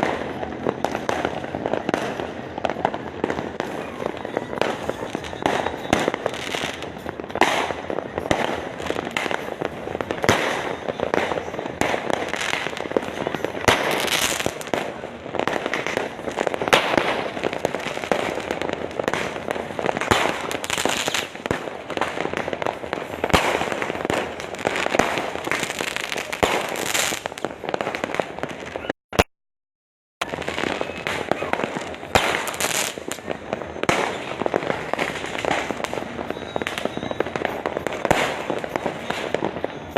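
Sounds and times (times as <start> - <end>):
firecracker bangs: 0.0 - 28.9, 30.2 - 39.9
fireworks crackling: 0.0 - 29.0, 30.2 - 39.9.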